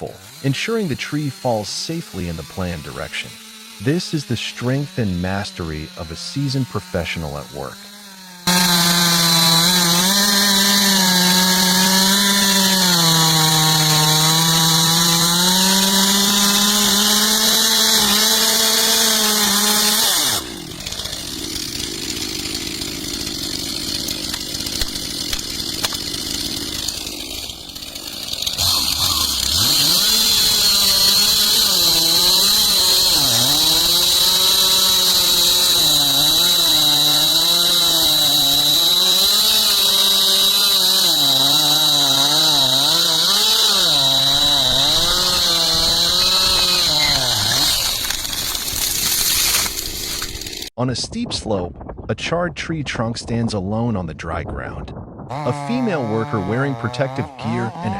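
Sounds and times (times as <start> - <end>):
chainsaw cutting: 0.0 - 50.8, 55.3 - 57.9.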